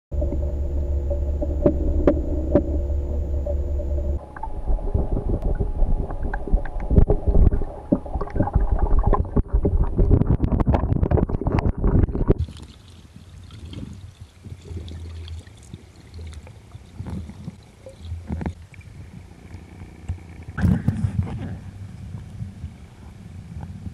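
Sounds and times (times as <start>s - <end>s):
fish clicking and knocking underwater: 0.1s - 12.8s, 13.5s - 21.6s
low underwater hum: 0.1s - 23.9s.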